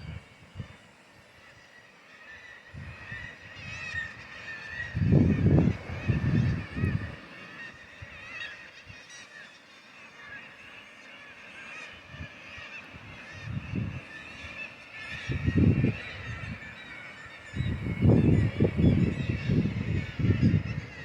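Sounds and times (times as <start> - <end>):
birds calling in chorus: 3.0 - 21.0.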